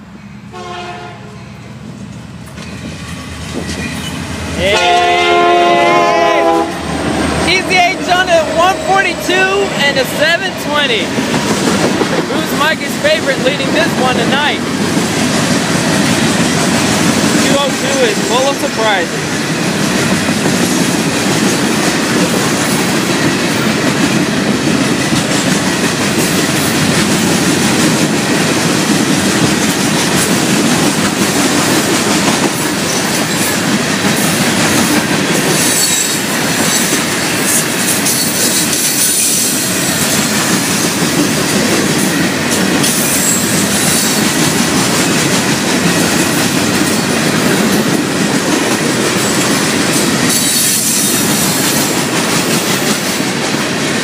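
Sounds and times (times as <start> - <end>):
steel train wheels on rails: 1.5 - 54.0.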